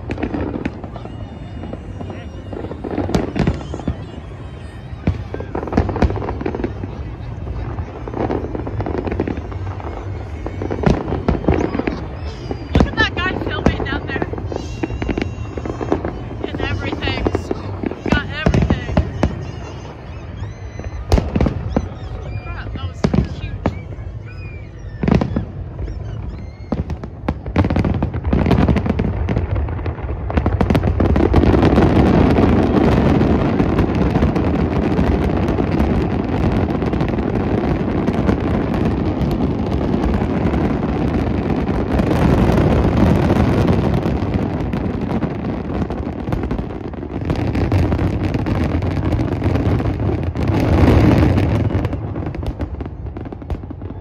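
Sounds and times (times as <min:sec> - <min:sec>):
fireworks bangs and booms: 0:00.0 - 0:54.0.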